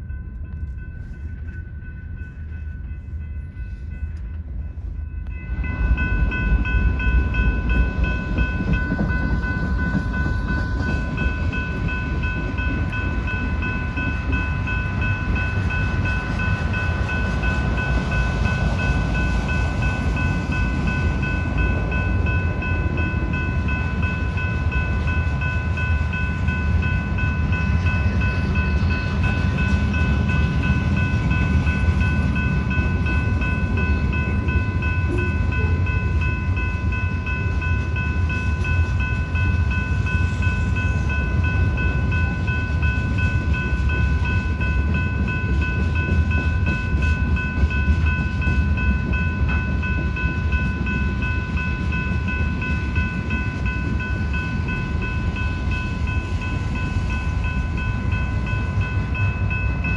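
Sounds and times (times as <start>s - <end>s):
crossing bell ringing: 0.0s - 59.9s.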